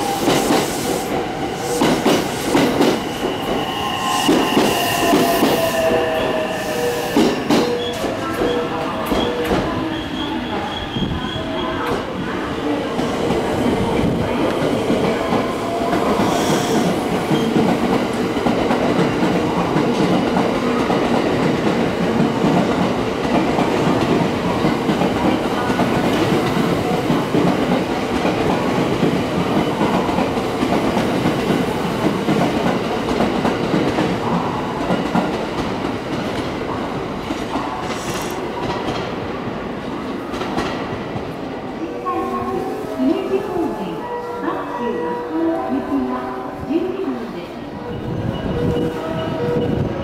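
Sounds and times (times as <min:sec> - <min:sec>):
train wheels rumbling on rails: 0:00.0 - 0:43.8.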